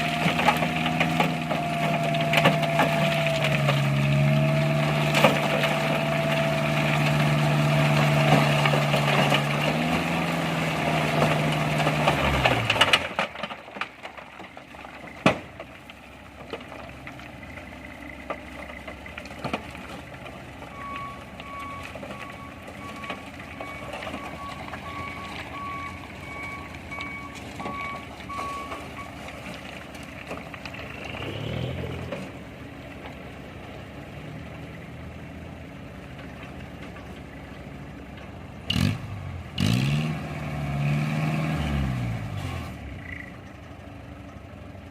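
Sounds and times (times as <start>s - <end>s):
diesel engine running hard: 0.0s - 13.5s, 14.8s - 44.9s.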